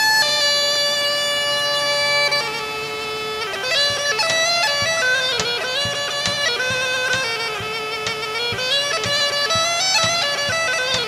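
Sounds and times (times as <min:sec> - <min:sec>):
bagpipe folk melody: 0:00.0 - 0:11.0.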